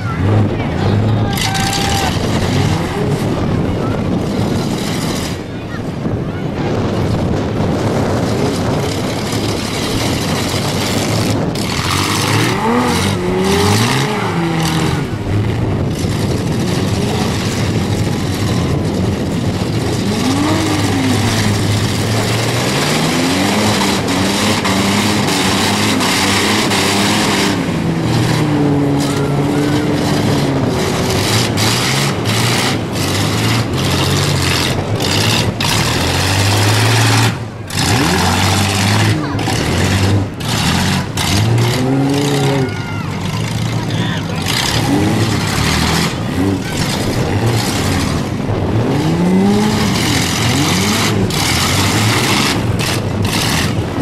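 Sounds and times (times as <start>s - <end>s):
van engines revving: 0.0s - 54.0s.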